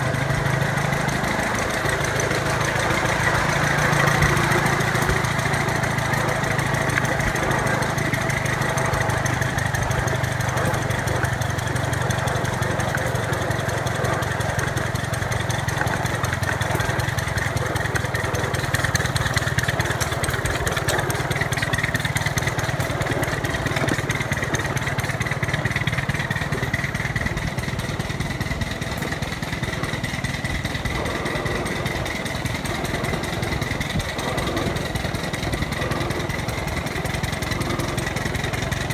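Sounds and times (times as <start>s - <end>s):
small engine drone: 0.0s - 38.9s
wheels rumbling on rails: 0.0s - 38.9s.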